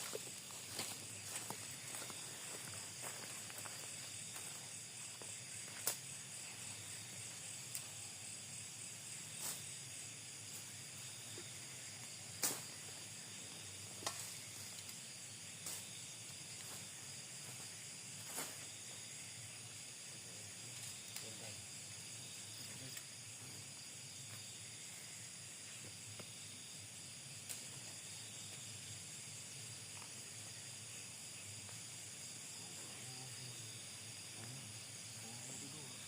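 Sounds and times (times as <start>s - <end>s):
night insects chorus: 0.0s - 36.0s.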